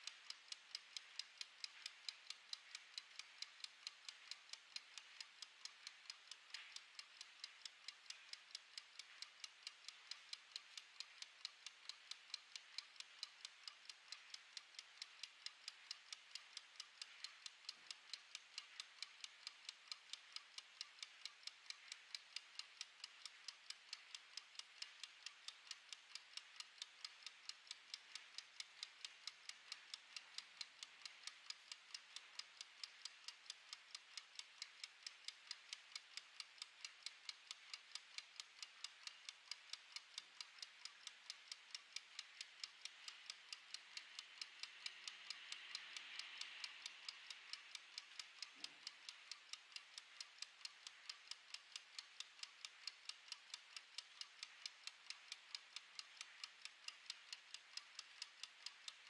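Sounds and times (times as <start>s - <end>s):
kitchen timer ticking: 0.0s - 59.0s.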